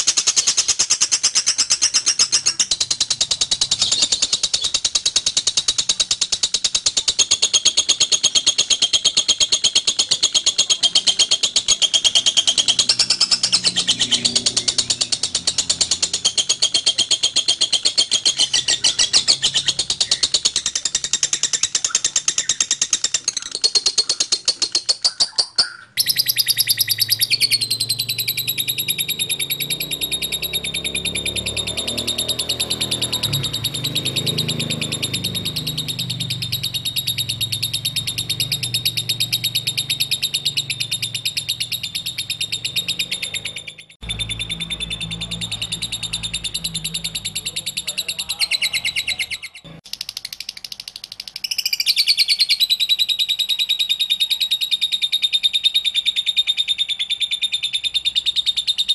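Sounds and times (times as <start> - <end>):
lovebird rapid shrill chirps: 0.0 - 58.9.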